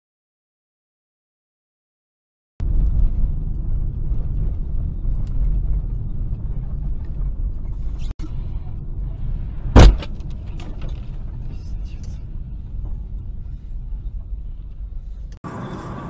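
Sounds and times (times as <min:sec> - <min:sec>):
car engine and tyres rumbling: 0:02.6 - 0:16.0.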